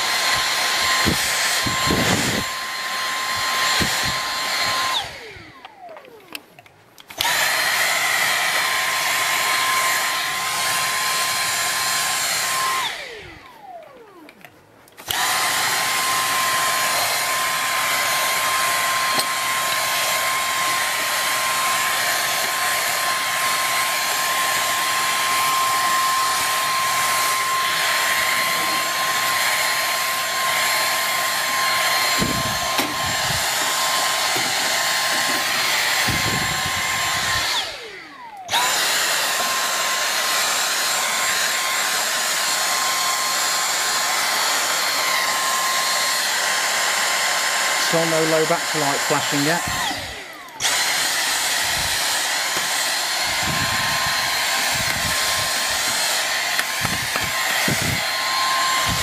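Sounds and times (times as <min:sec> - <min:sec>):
vacuum cleaner motor whining: 0:00.0 - 0:59.0.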